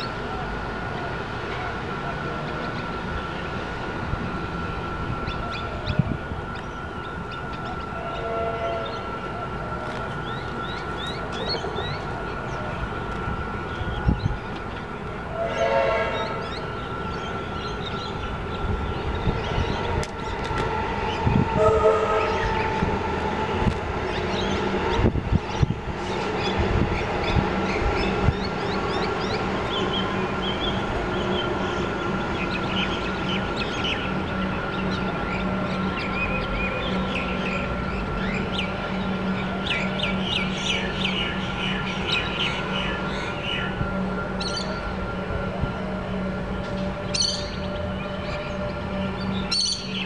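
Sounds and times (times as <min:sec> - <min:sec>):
steady background hum: 0:00.0 - 0:50.0.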